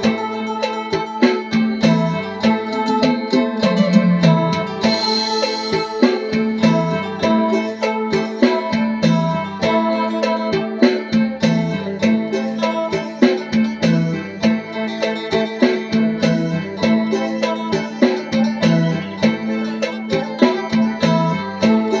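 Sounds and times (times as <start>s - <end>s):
drone string: 0.0s - 22.0s
plucked lute melody: 0.0s - 22.0s.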